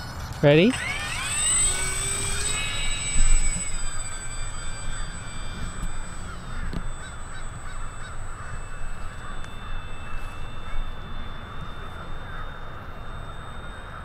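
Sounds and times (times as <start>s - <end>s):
model airplane motor whine: 0.0s - 14.0s.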